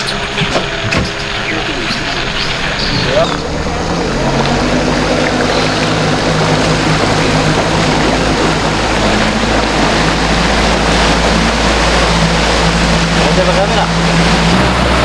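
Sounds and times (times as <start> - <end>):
boat motor humming: 0.0 - 15.0
water rushing along hull: 0.0 - 15.0.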